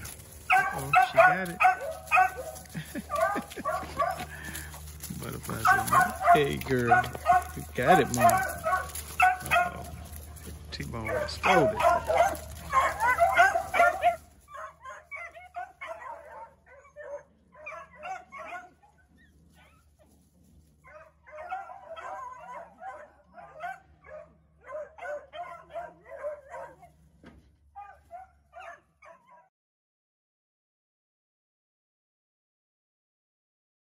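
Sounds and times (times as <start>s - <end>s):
puppies yipping and barking: 0.0s - 27.0s, 27.8s - 29.5s.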